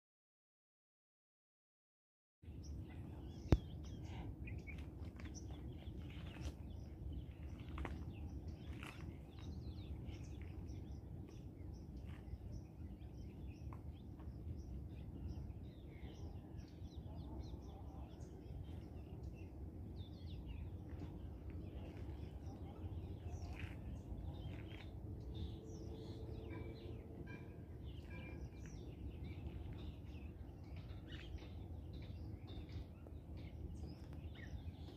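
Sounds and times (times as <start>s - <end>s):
birds chirping: 2.5s - 34.9s
low background rumble: 2.5s - 34.9s.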